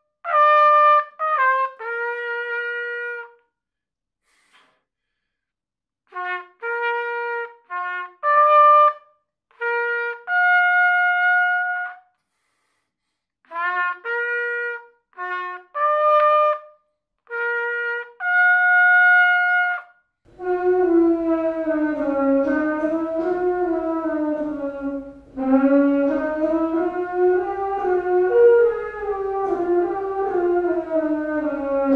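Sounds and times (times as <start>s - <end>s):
trumpet sliding line with backing: 0.0s - 3.4s, 6.1s - 12.0s, 13.5s - 31.9s
solo trumpet slow melody: 0.0s - 3.5s, 6.1s - 12.2s, 13.5s - 31.9s.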